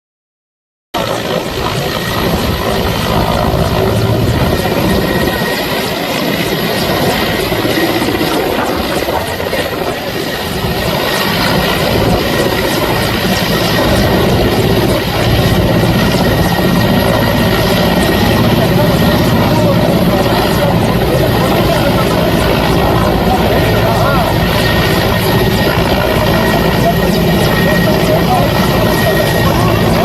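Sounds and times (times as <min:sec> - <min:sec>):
helicopter flying close by: 0:01.0 - 0:30.0.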